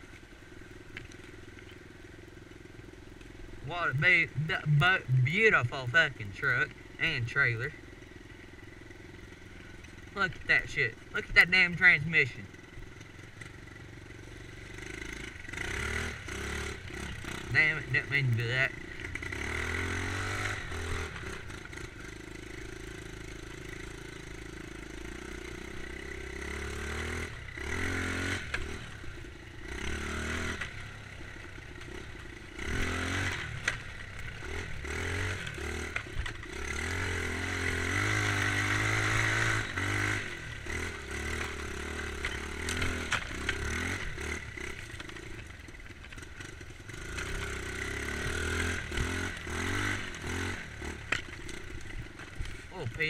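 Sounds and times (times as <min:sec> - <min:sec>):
dirt bike engine revving: 0:03.5 - 0:53.0.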